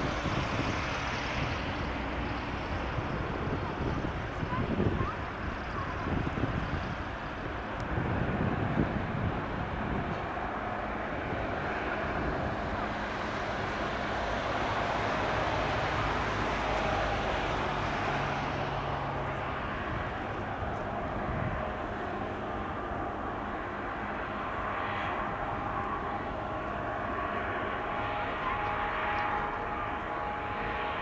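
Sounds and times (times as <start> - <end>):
rushing aircraft noise: 0.0 - 31.0.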